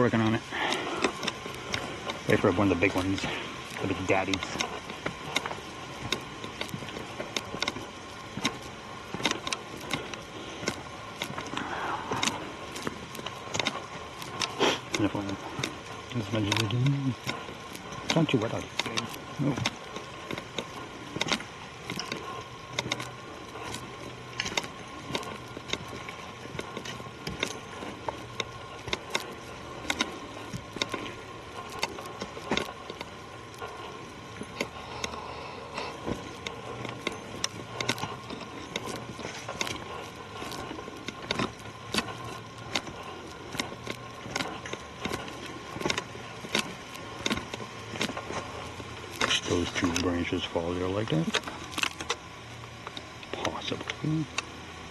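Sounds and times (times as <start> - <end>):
footsteps crunching on trail: 0.0 - 54.9
steady background hum: 0.0 - 54.9.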